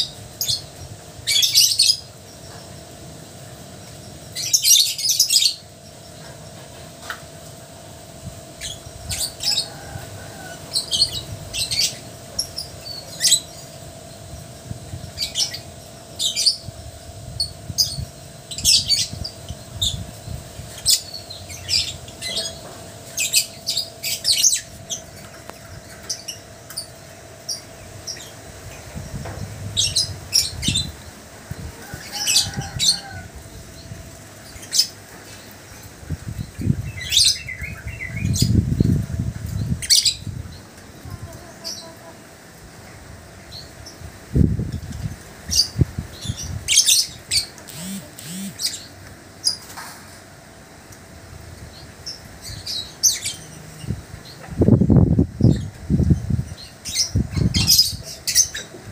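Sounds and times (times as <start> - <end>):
lovebirds chirping and squawking: 0.0 - 2.6, 8.3 - 42.4, 43.5 - 49.9, 51.8 - 58.9.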